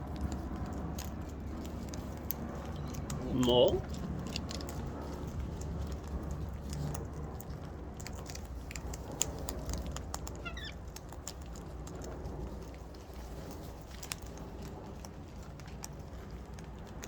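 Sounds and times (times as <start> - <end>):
birds pecking at food: 0.0 - 17.0
low background hum: 0.0 - 17.0.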